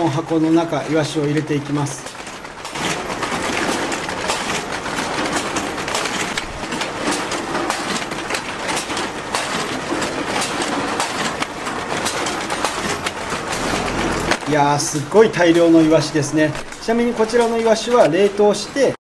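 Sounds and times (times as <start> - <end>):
fish clattering into metal trays: 0.0 - 19.0
machine rushing: 1.7 - 17.6.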